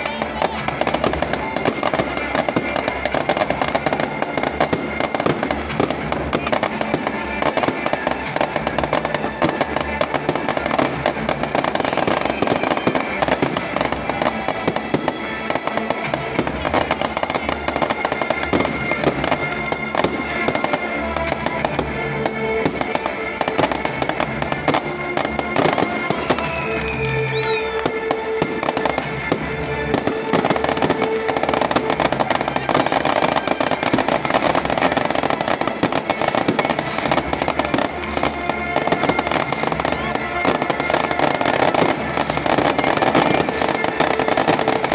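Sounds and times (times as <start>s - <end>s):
background music: 0.0s - 44.9s
bonfire crackling and popping: 0.0s - 44.9s.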